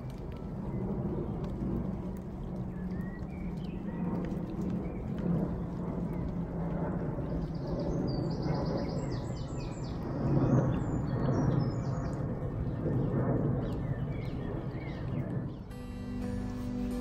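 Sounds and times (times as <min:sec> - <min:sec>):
songbird singing: 0:00.0 - 0:06.4, 0:07.2 - 0:17.0
low rumbling background noise: 0:00.0 - 0:17.0.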